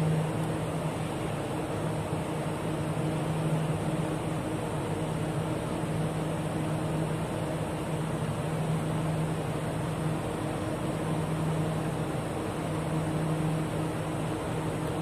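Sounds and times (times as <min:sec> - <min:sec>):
low humming tone: 0:00.0 - 0:15.0
train carriage ventilation hum: 0:00.0 - 0:15.0.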